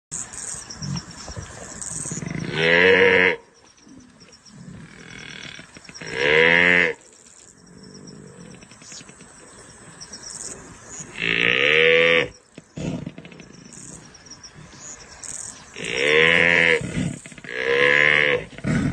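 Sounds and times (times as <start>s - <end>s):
faint high chirring: 0.1s - 18.9s.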